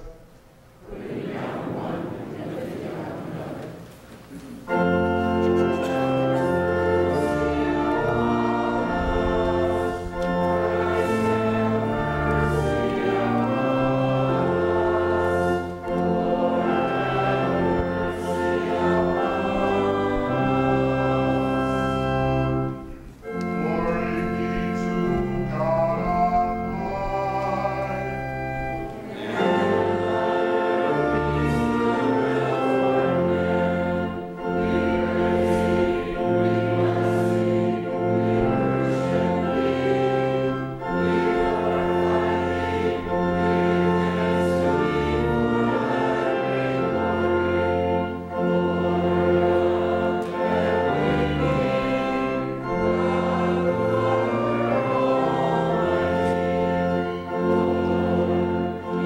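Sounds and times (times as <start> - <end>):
organ chords: 0.0 - 59.0
choir singing: 0.8 - 3.9, 4.6 - 59.0.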